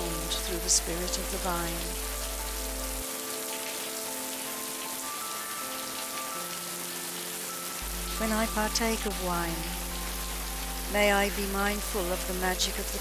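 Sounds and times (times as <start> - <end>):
soft music of held notes: 0.0 - 13.0
steady rain falling: 0.0 - 13.0.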